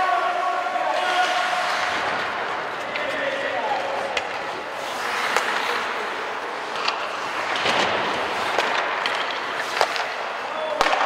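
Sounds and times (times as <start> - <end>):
hockey sticks and puck clacking: 0.0 - 11.0
skates scraping ice: 0.0 - 11.0.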